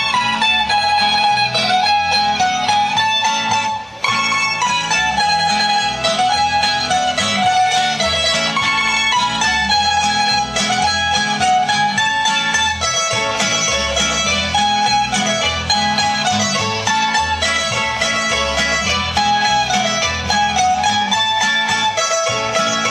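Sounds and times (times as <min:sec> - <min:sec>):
folk dance music on plucked strings: 0:00.0 - 0:22.9.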